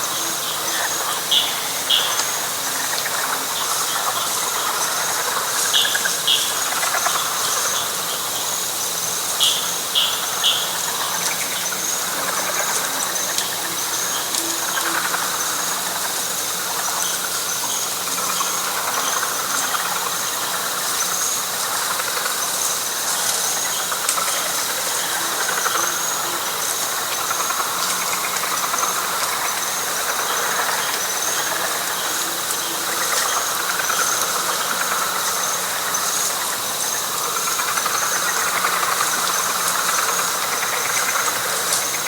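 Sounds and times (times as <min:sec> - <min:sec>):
frog chorus: 0:00.0 - 0:42.0
high insect whine: 0:00.0 - 0:42.0.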